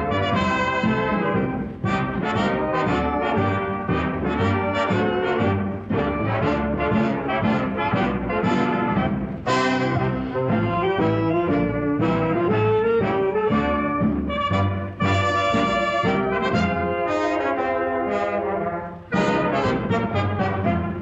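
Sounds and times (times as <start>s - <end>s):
brass-led music: 0.0s - 21.0s.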